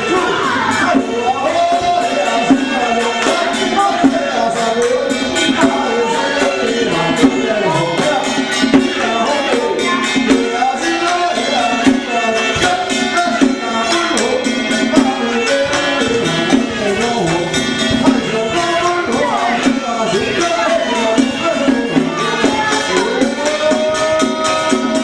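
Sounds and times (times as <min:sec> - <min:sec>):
wavering melody: 0:00.0 - 0:25.0.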